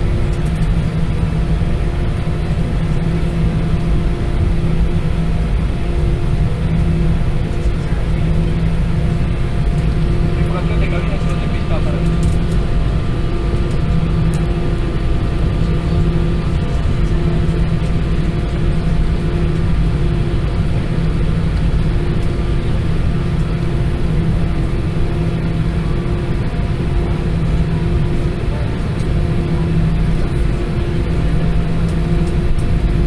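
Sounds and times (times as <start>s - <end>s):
airplane cabin engine rumble: 0.0s - 33.0s
constant hum with tones: 0.0s - 33.0s.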